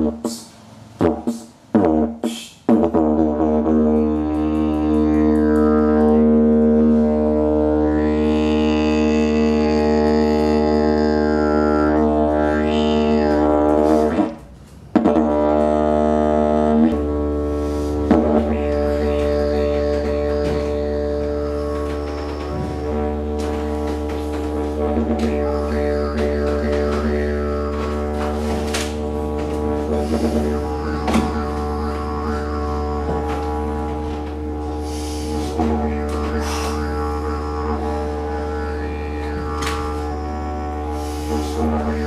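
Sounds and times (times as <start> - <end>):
didgeridoo drone: 0.0 - 42.0.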